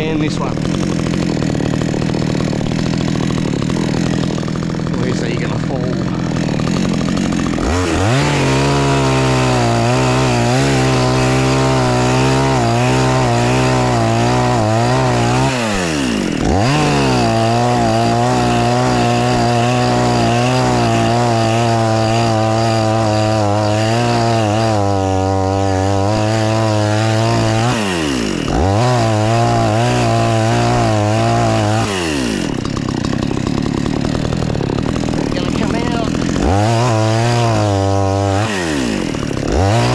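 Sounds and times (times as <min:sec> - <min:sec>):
chainsaw cutting into tree: 0:00.0 - 0:39.9.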